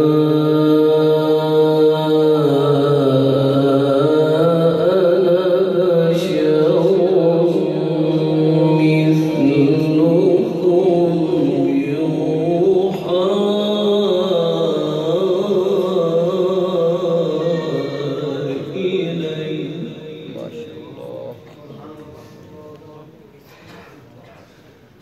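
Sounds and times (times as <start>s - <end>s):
man chanting recitation: 0.0s - 24.6s.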